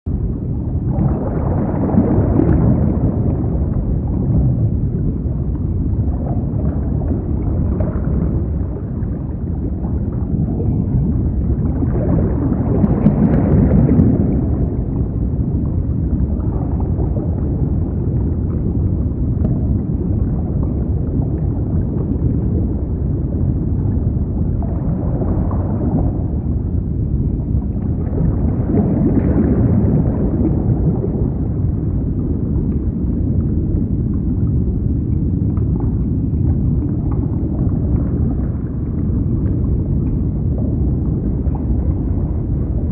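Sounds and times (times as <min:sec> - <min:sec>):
aquarium water gurgling: 0:00.1 - 0:42.9.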